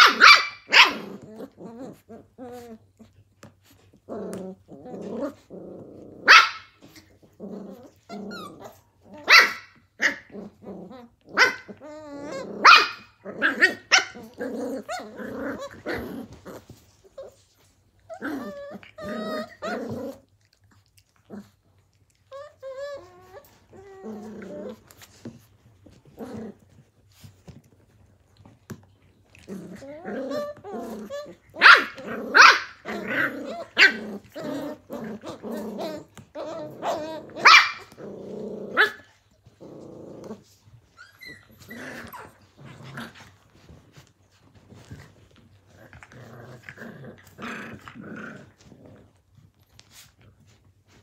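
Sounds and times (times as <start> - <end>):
puppies growling: 0.0 - 51.0.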